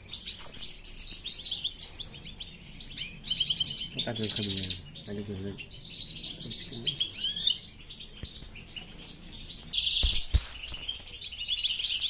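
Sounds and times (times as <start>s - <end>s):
finches chirping and twittering: 0.0s - 12.0s.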